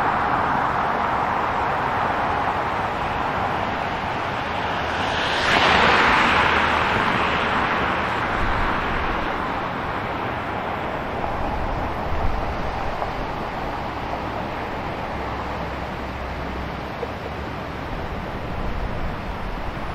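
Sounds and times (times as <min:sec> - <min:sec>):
traffic road noise: 0:00.0 - 0:19.9
vehicle passing close: 0:01.1 - 0:19.4.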